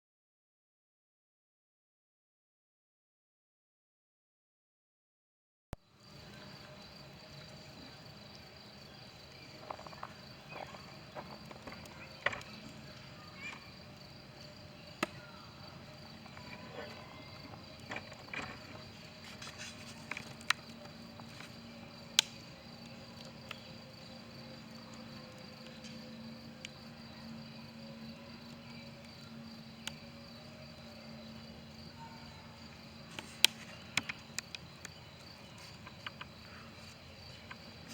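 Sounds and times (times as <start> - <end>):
crickets chirring: 5.8 - 37.9.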